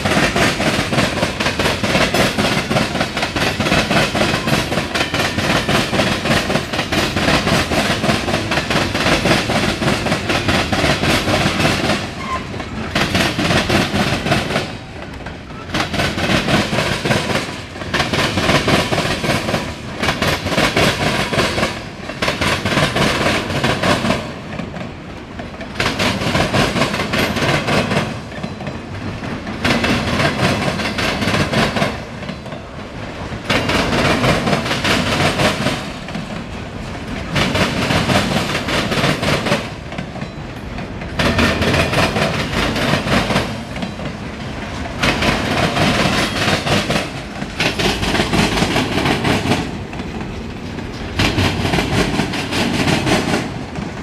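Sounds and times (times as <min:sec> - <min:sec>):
train wheels clacking over rail joints: 0:00.0 - 0:54.0.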